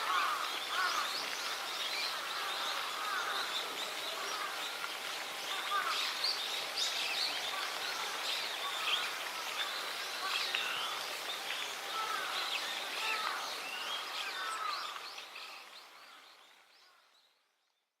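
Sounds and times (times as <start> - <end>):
steady outdoor hiss: 0.0 - 17.9.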